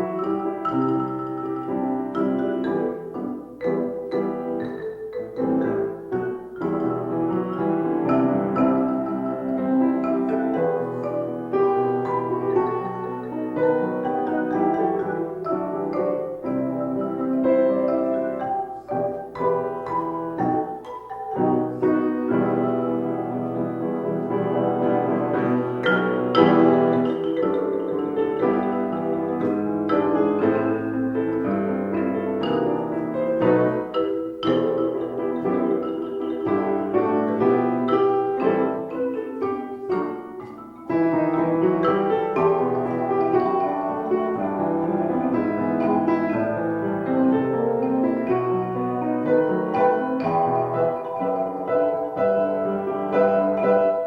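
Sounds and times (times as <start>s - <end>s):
keyboard or mallet melody: 0.0s - 54.0s
piano playing chords: 0.0s - 54.0s.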